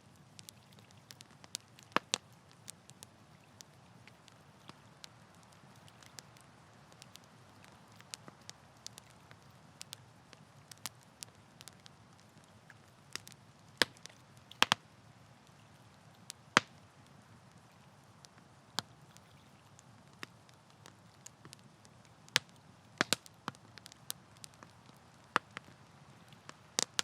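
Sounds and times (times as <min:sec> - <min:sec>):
campfire wood crackling: 0:00.0 - 0:27.0
soft low hiss: 0:00.0 - 0:27.0.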